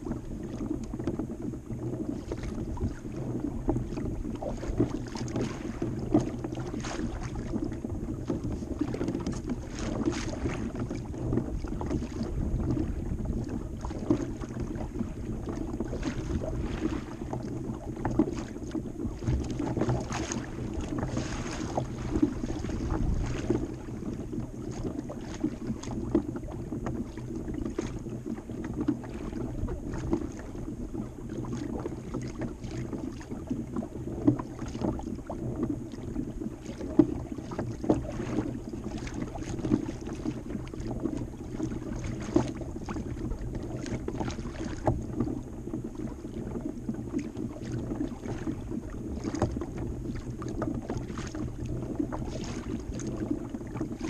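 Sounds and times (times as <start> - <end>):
boat knocks and clicks: 0.0 - 54.0
water slapping against hull: 0.0 - 54.0.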